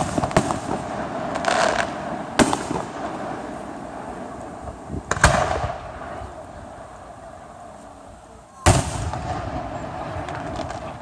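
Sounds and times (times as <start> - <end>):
fireworks bursting with echo: 0.0 - 11.0.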